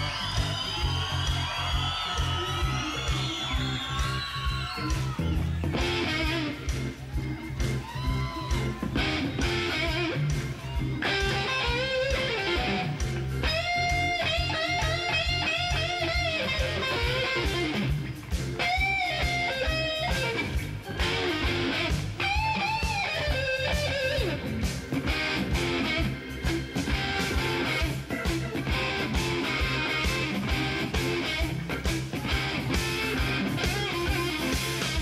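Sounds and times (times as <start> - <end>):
bass and drum beat: 0.0 - 35.0
electric guitar lead: 2.4 - 35.0.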